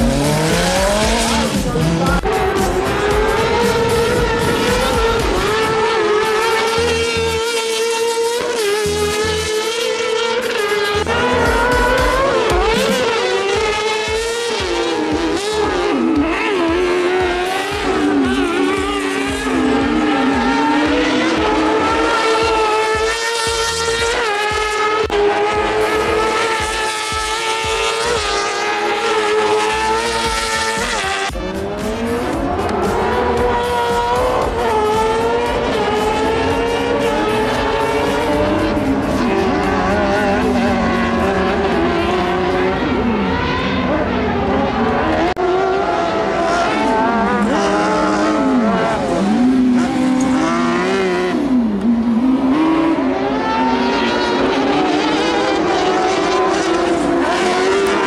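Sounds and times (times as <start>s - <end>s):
buggy engines revving: 0.0s - 58.0s.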